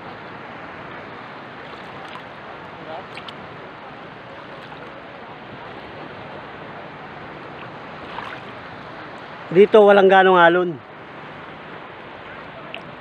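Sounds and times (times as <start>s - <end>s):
sea water lapping: 0.0s - 9.6s, 10.9s - 13.0s.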